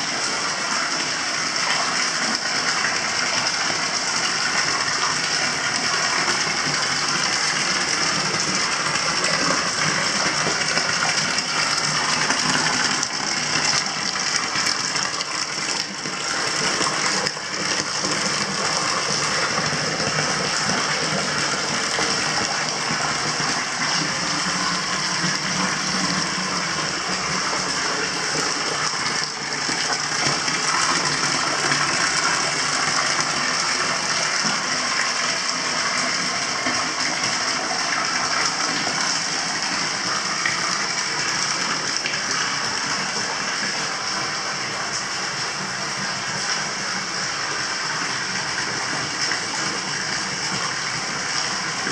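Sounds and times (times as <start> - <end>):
water pouring and splashing: 0.0 - 51.9.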